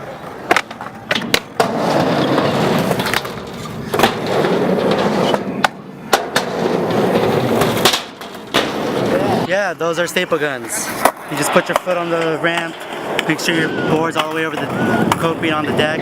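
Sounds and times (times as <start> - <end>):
skateboard clacks: 0.0 - 9.5, 10.4 - 16.0
skateboard wheels rolling on ramp: 0.0 - 16.0.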